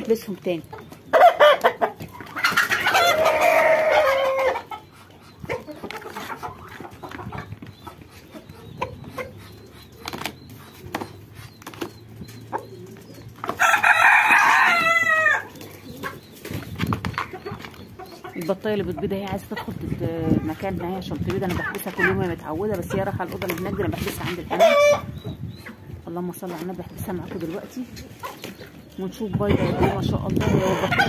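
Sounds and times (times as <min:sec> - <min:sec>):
chickens clucking: 0:00.0 - 0:31.0.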